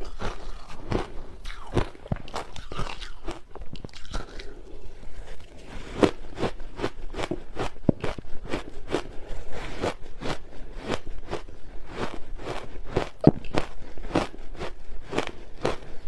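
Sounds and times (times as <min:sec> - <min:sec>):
ice crunching while chewed: 0:00.0 - 0:16.0.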